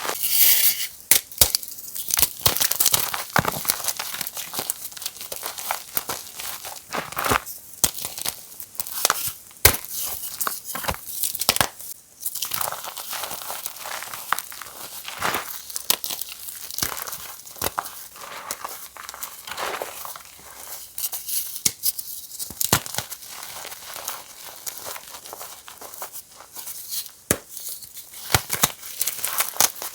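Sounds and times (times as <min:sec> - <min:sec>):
chalk crunching and crumbling: 0:00.0 - 0:29.9.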